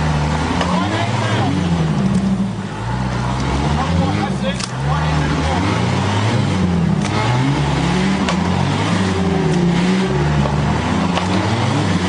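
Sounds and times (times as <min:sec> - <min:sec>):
engine revving up and down: 0:00.0 - 0:12.0.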